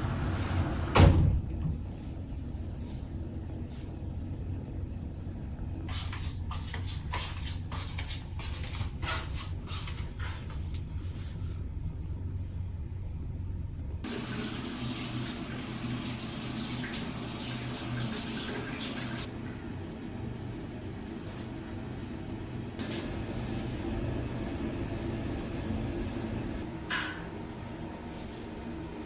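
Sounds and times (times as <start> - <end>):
steady low hum: 0.0 - 16.2, 19.2 - 29.0.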